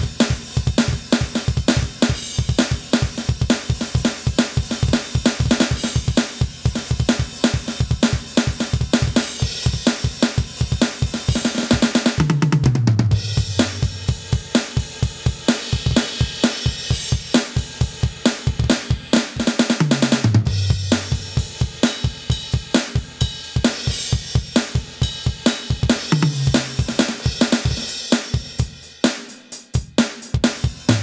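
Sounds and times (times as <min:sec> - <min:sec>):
electronic drum kit rock beat: 0:00.0 - 0:31.0.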